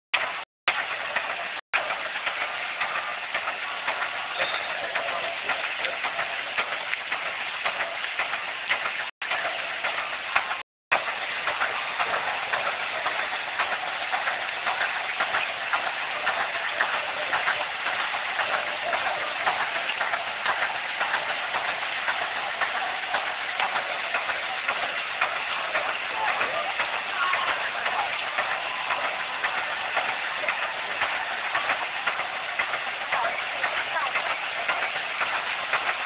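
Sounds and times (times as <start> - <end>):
steam pump clattering: 0.2 - 36.0.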